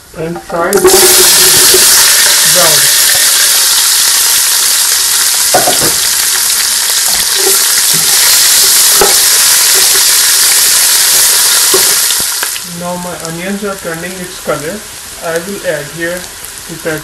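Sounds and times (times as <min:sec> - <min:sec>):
onions sizzling in hot oil: 0:00.6 - 0:17.0.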